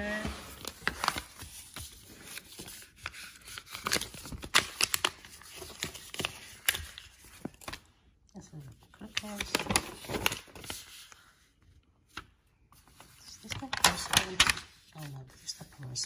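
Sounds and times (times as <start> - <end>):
paper rustling: 0.0 - 8.0, 8.7 - 16.0.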